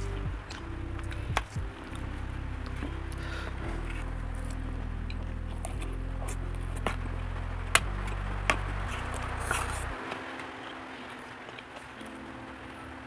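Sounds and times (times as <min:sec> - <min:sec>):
low background tones: 0:00.0 - 0:13.0.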